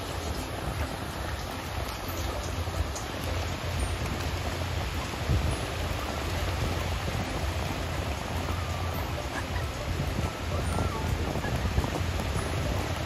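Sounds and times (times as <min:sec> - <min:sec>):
feet splashing through water: 0:00.0 - 0:13.0
surf washing over sand: 0:00.0 - 0:13.0
wind rumbling on microphone: 0:00.0 - 0:13.0.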